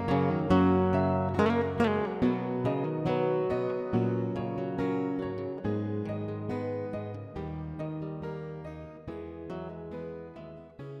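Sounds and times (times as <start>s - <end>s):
acoustic guitar plucked chords: 0.0s - 11.0s.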